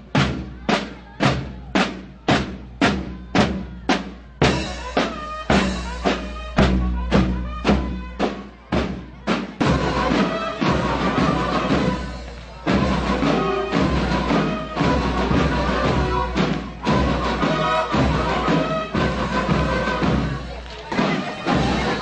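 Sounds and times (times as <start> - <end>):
bass drum and snare march beat: 0.0 - 22.0
pitched notes over drums: 0.0 - 22.0.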